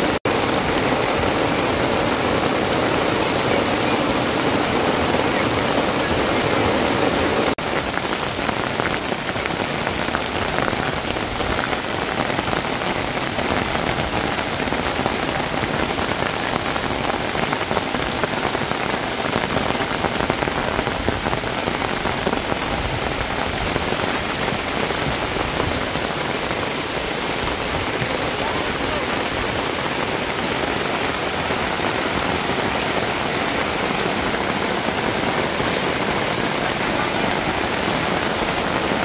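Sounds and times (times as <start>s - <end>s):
rain on a tarp: 0.0s - 39.0s
rain on waterlogged ground: 0.0s - 39.0s.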